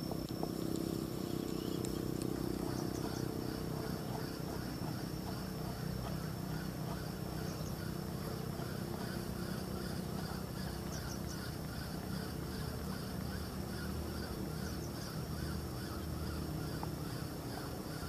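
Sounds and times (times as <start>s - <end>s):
low motor-like drone: 0.0s - 18.0s.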